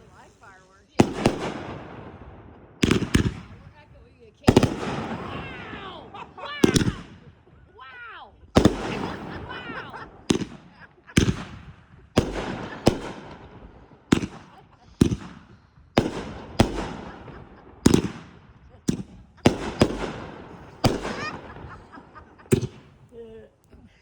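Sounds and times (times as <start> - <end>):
fireworks bangs: 0.0 - 7.8, 8.4 - 24.0.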